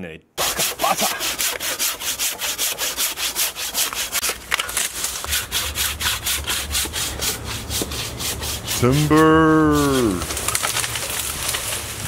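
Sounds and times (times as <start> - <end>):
hand saw cutting branch: 0.4 - 11.8.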